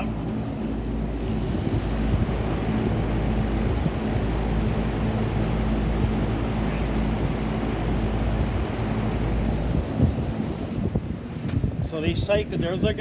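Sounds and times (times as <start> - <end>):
compressors humming: 0.0 - 12.7
condenser fan rushing air: 0.0 - 13.0.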